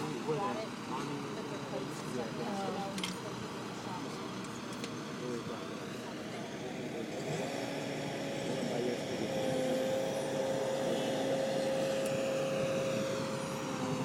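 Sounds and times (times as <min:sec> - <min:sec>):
car engine and road noise: 0:00.0 - 0:14.0
steady whine: 0:00.0 - 0:14.0.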